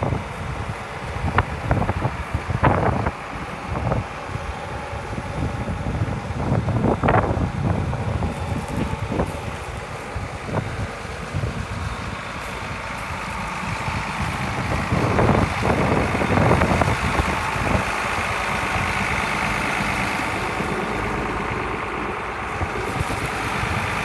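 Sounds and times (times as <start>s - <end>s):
tractor diesel engine idling: 0.0s - 24.0s.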